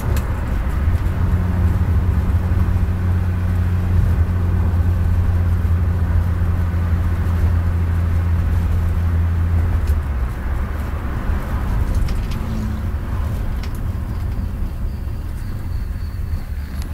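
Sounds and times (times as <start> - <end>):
engine low hum: 0.0 - 16.9
road or rain noise: 0.0 - 16.9.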